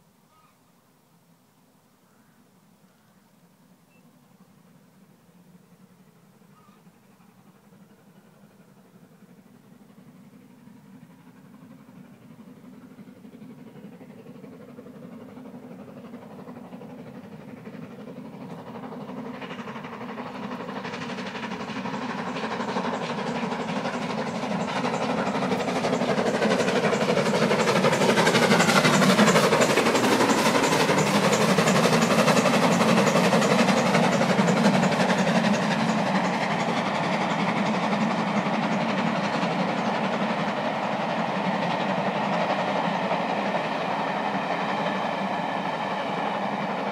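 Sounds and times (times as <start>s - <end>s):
train running: 3.5s - 46.9s
steam locomotive exhaust: 4.0s - 46.9s.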